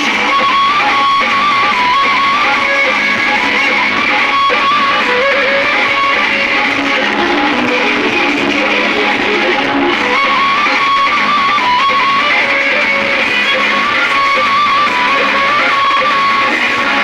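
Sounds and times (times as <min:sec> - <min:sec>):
guitar melody: 0:00.0 - 0:17.0
strummed guitar backing: 0:00.0 - 0:17.0.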